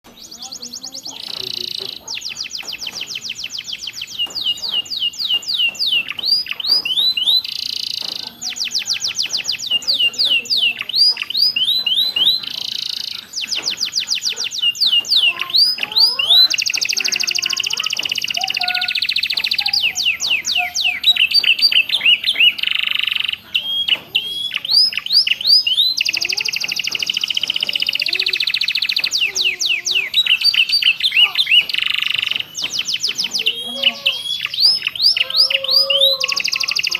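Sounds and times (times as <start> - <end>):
canary singing: 0.0 - 36.9.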